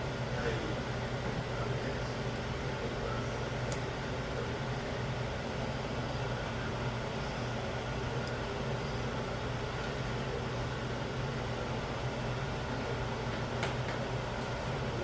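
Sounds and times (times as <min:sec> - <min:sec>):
mechanical hum with hiss: 0:00.0 - 0:15.0.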